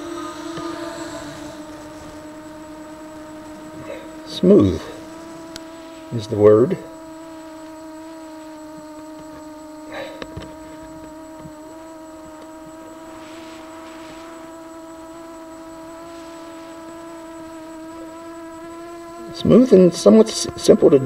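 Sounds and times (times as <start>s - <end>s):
steady electric hum: 0.0s - 21.0s.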